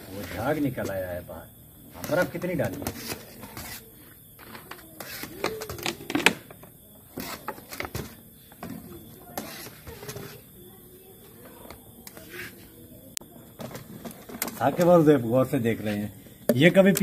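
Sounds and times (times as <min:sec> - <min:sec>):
voices talking quietly: 0:00.0 - 0:17.0.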